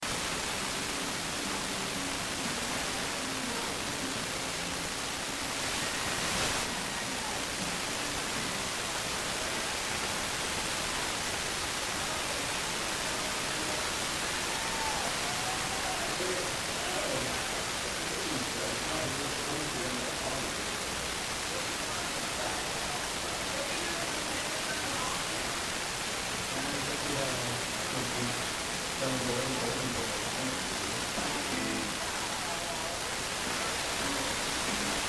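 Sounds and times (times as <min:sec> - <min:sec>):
television static hiss: 0:00.0 - 0:35.0.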